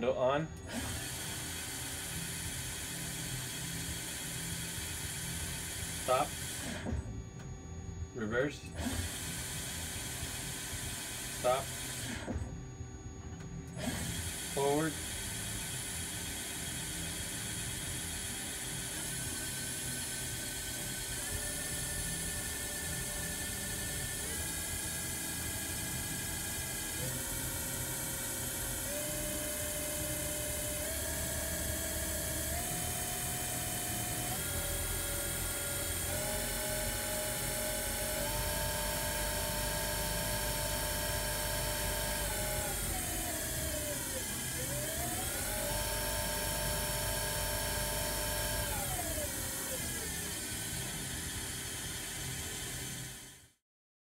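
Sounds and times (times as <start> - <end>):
lathe spindle whine: 0.7 - 53.4.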